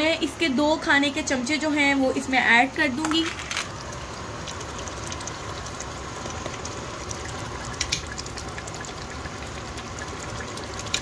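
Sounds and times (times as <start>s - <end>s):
chicken sizzling in oil: 2.0s - 11.0s.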